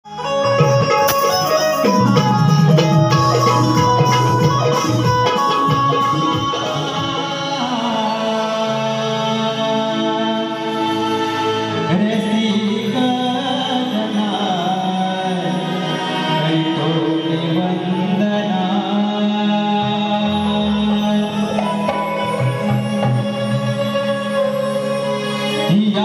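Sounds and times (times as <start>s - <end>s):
harmonium holding chords: 0.1s - 26.0s
person singing: 1.1s - 26.0s.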